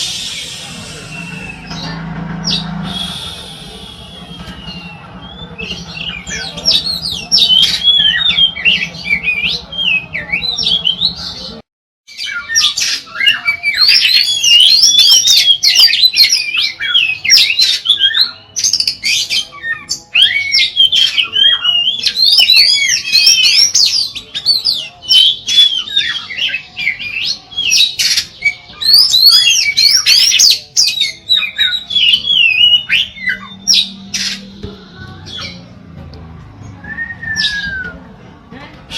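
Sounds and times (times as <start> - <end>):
magpie-robin singing: 4.1 - 35.8, 36.6 - 38.1.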